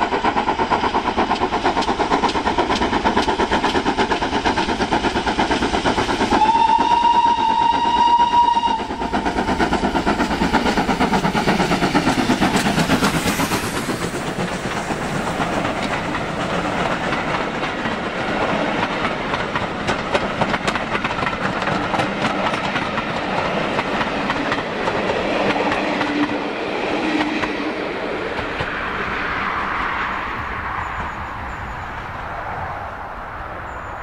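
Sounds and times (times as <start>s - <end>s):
train wheels clicking over rail joints: 0.0s - 31.6s.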